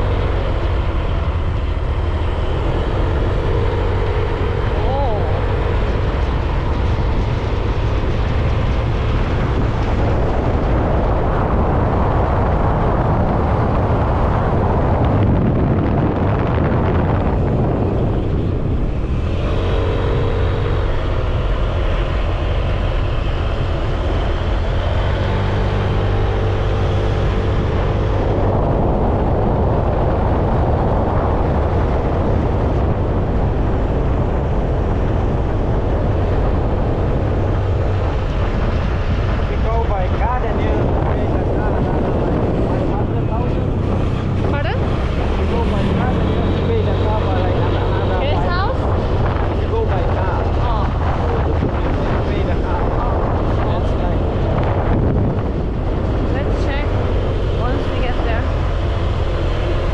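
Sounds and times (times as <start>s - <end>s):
wind and road noise rushing: 0.0s - 59.9s.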